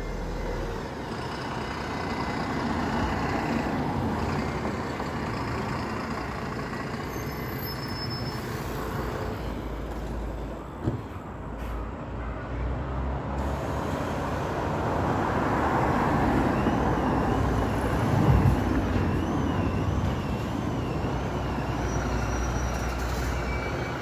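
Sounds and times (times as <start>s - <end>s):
buses running close by: 0.0s - 24.0s
cars passing: 0.0s - 24.0s.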